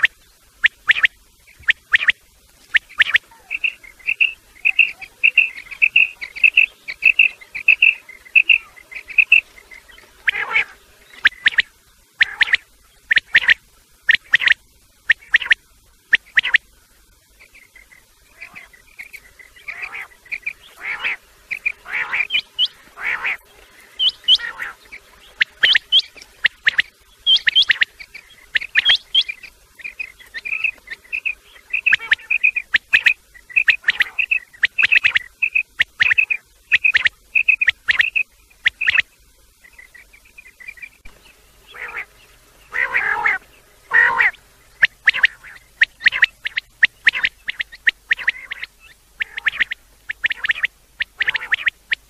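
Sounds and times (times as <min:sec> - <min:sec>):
quail chirping calls: 0:00.0 - 0:16.6, 0:17.4 - 0:52.0.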